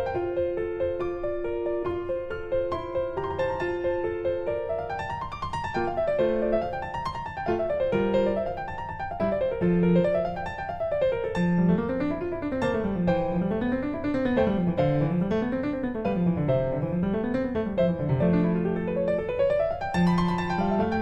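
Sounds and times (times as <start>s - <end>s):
keyboard playing fast arpeggios: 1.7s - 21.0s.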